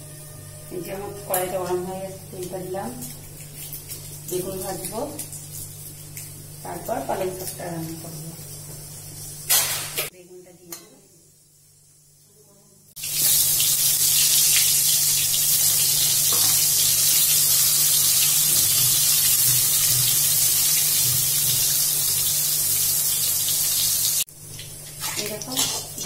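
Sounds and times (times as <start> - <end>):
eggplant slices sizzling in oil: 0.0 - 26.0.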